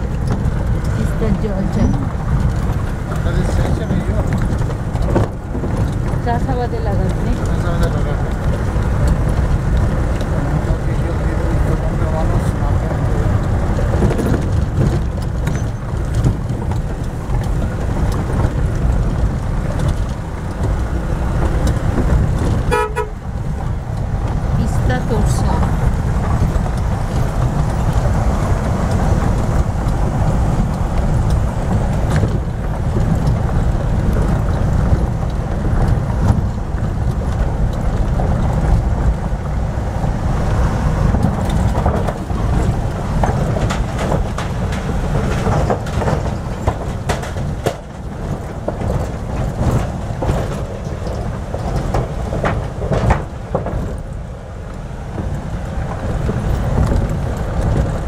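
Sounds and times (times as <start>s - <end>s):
engine and road rumble: 0.0s - 58.0s
vehicle knocks and rattles: 0.0s - 58.0s.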